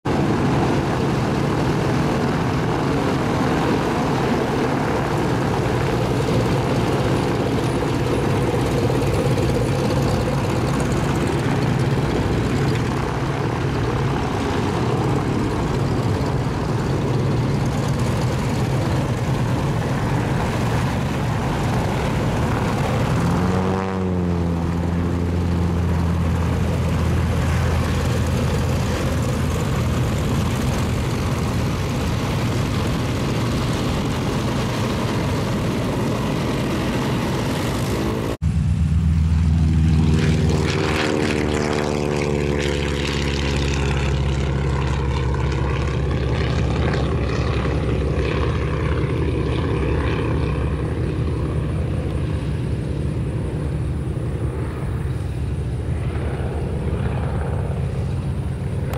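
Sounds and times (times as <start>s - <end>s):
propeller noise: 0.0s - 58.9s
radial aircraft engine running: 0.0s - 58.9s.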